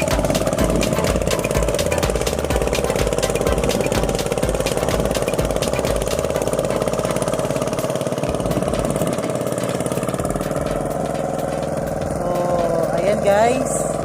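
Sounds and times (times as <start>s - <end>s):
diesel engine chugging: 0.0s - 14.0s.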